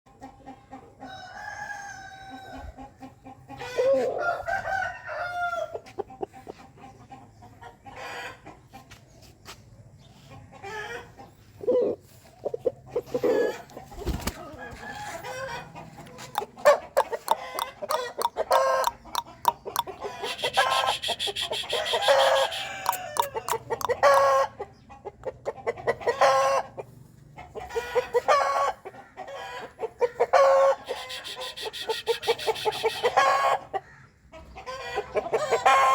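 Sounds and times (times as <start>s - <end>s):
chickens clucking: 0.1s - 35.9s
chickens crowing: 1.0s - 6.6s, 10.6s - 35.9s.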